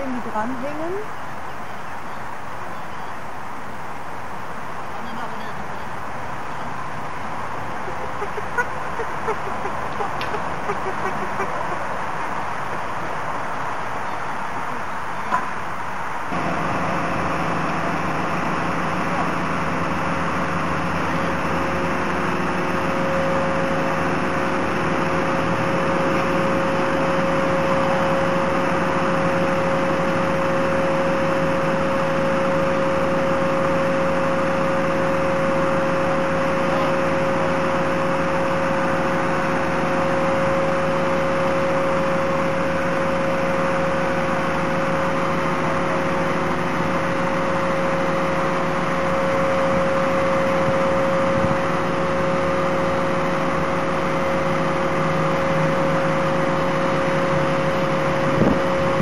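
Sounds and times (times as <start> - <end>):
engine drone: 0.0 - 59.0
hydraulic whine: 0.0 - 59.0.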